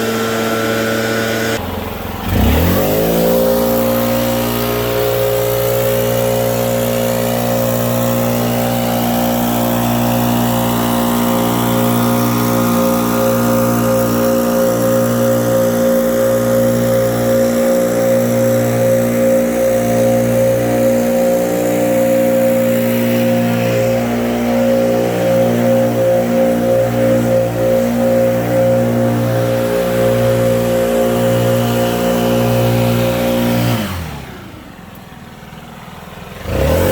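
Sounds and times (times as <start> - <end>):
small gasoline engine running: 0.0 - 36.9.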